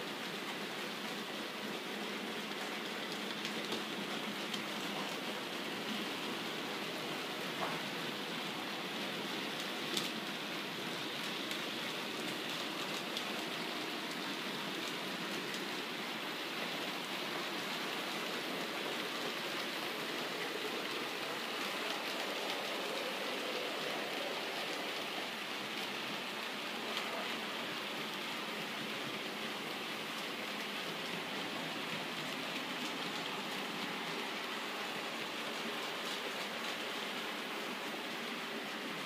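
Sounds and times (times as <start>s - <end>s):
model train wheels rolling on rails: 0.0s - 39.0s.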